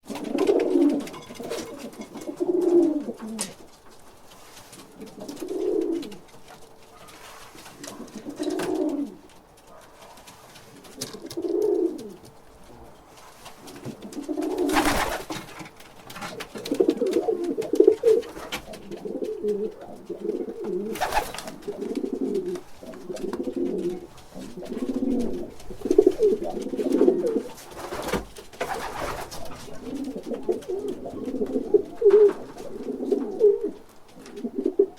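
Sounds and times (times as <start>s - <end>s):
pigeon cooing: 0.1s - 3.7s, 4.9s - 7.2s, 7.8s - 9.3s, 10.7s - 15.2s, 16.2s - 28.0s, 28.7s - 34.9s.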